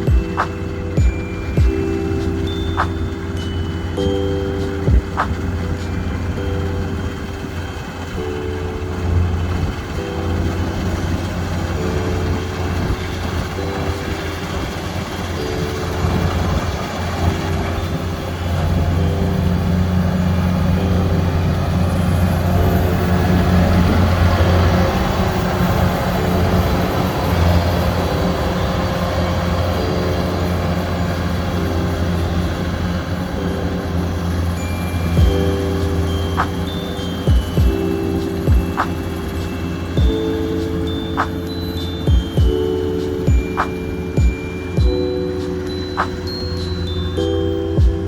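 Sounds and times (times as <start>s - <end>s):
harvester engine humming: 0.0s - 48.0s.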